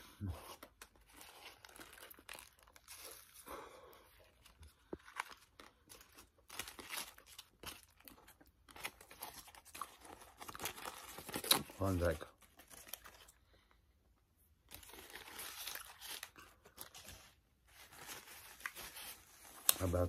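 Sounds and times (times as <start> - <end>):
foil wrapper crinkling: 0.8 - 3.6, 4.8 - 13.4, 14.7 - 20.0.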